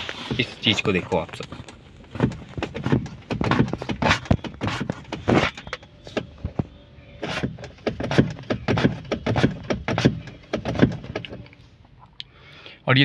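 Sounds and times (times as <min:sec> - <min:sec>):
clutch pedal knocks and clunks: 0:00.2 - 0:11.6.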